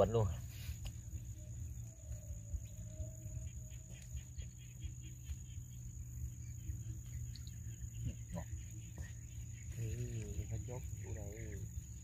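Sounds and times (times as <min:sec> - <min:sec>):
high insect drone: 0:00.0 - 0:12.0
wind rumble on microphone: 0:00.0 - 0:12.0.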